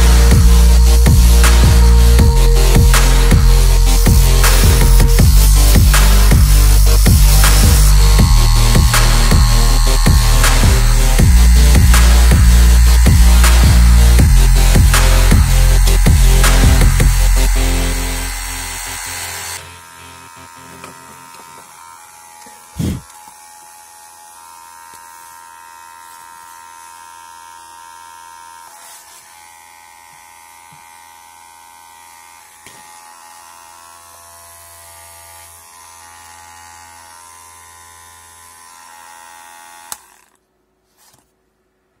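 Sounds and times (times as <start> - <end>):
small motor whining: 0.0 - 40.4.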